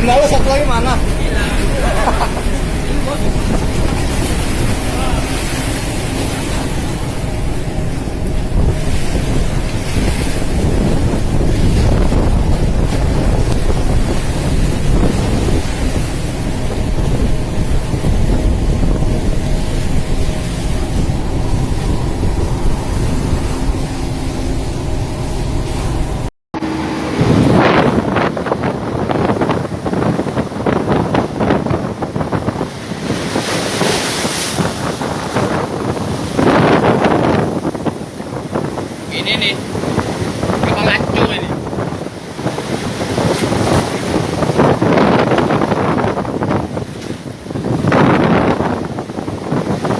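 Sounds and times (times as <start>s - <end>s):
sea waves rushing against ship: 0.0s - 49.9s
water splashing: 0.0s - 49.9s
wind buffeting microphone: 0.0s - 49.9s.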